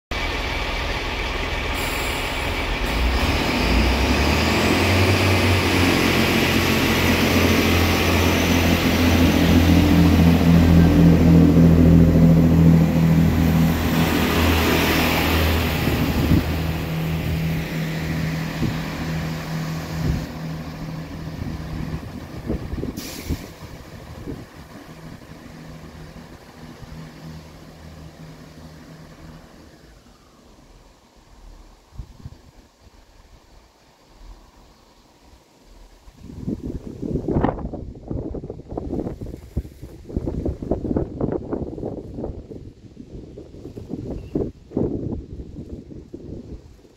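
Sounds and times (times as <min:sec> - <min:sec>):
diesel train engines pulling away: 0:00.1 - 0:46.9.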